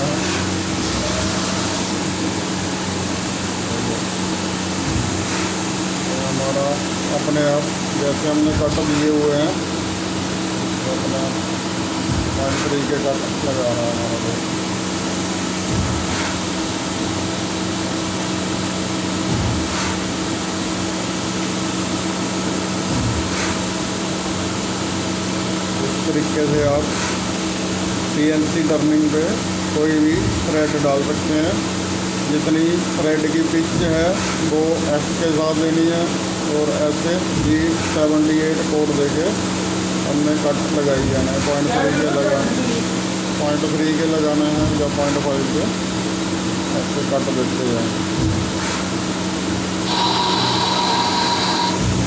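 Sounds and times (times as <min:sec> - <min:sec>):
lathe humming with hiss: 0:00.0 - 0:52.0.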